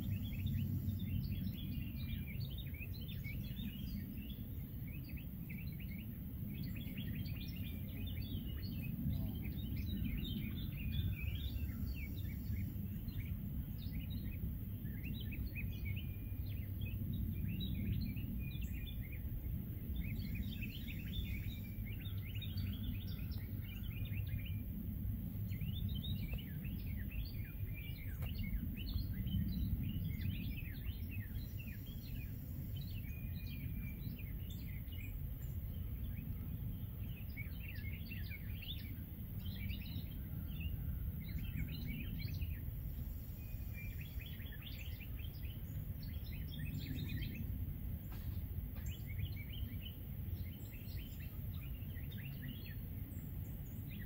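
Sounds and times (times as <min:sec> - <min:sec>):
songbirds chirping and trilling: 0:00.0 - 0:54.0
steady low rumble: 0:00.0 - 0:54.0.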